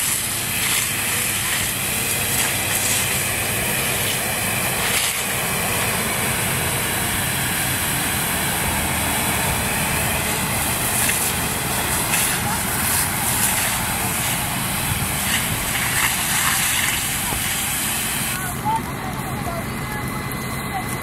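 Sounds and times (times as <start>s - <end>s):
fire crackling: 0.0s - 21.0s
fire hose jetting water: 0.0s - 21.0s
low engine drone: 0.0s - 21.0s.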